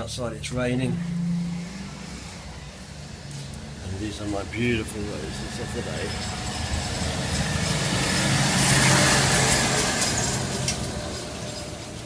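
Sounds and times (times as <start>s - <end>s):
vehicle engine passing by: 0.0s - 12.0s.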